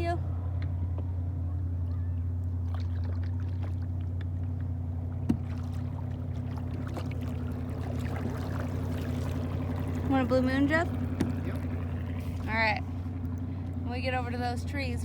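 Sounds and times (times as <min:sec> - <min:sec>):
steady low hum: 0:00.0 - 0:15.0
paddle splashes and drips: 0:01.9 - 0:14.5.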